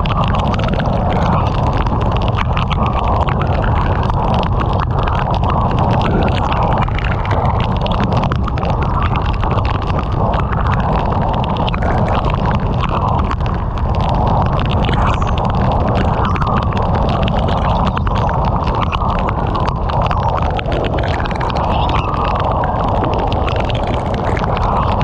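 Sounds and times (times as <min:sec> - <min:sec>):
heavy rain on a car: 0:00.0 - 0:25.0
road and wind noise: 0:00.0 - 0:25.0.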